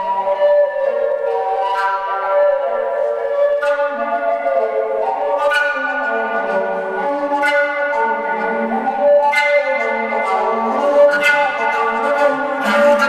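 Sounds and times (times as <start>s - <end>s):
flute playing slow melody: 0.0s - 13.0s.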